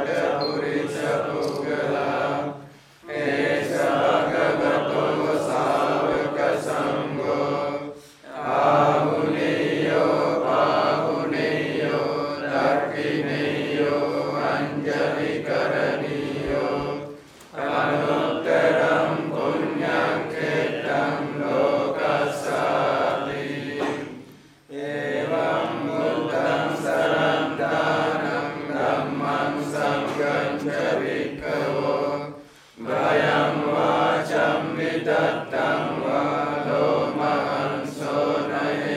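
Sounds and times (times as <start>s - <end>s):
group chanting in unison: 0.0s - 38.9s.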